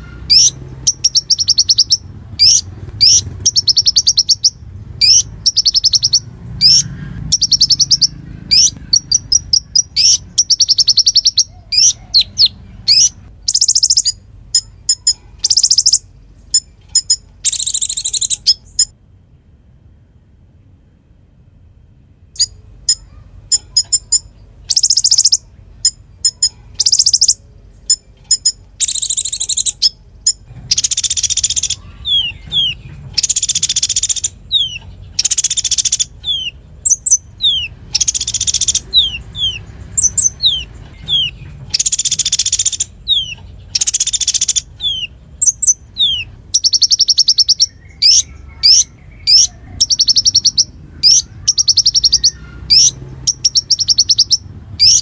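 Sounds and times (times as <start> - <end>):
sunbird singing trills and whistles: 0.0 - 19.0, 22.4 - 55.0.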